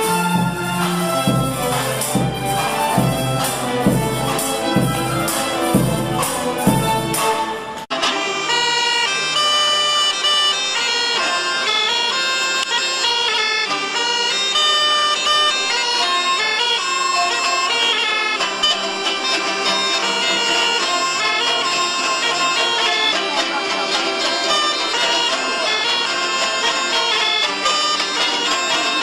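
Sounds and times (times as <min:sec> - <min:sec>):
wind instrument folk melody: 0:00.0 - 0:29.0.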